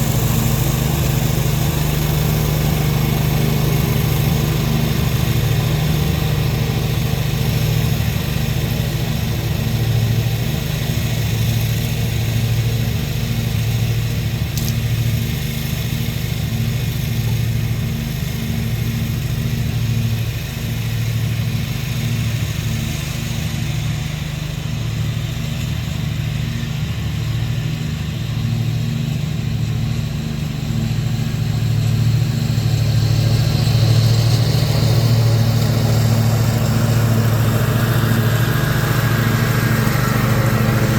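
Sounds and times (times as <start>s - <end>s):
mower engine running: 0.0s - 40.9s.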